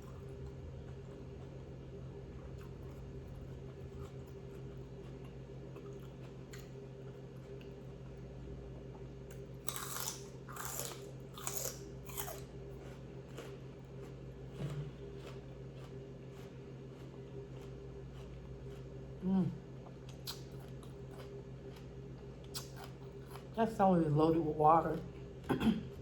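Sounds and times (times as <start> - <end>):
person chewing crunchy food: 0.0 - 19.2, 19.8 - 23.6
steady low hum: 0.0 - 26.0.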